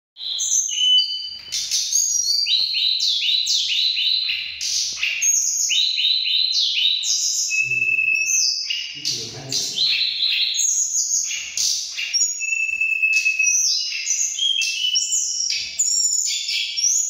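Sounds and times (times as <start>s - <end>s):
songbirds singing: 0.2s - 17.0s.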